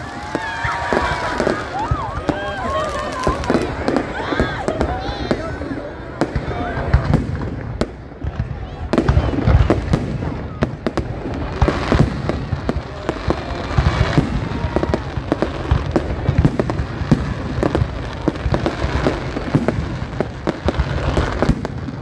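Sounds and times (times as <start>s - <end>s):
fireworks crackle: 0.0s - 22.0s.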